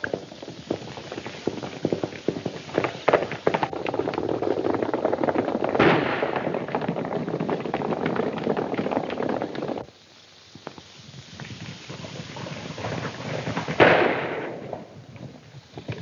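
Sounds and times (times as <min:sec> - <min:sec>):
horses galloping: 0:00.0 - 0:10.0, 0:10.8 - 0:16.0.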